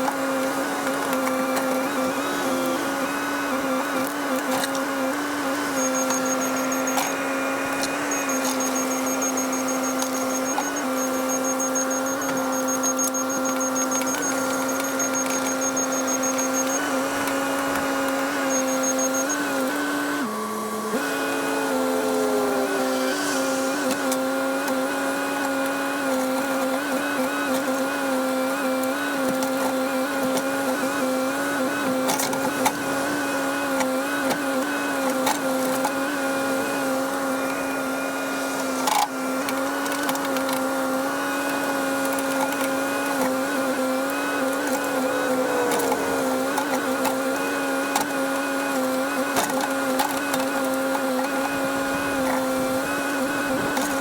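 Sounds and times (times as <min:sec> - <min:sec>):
excavator engine and hydraulics droning: 0:00.0 - 0:54.0.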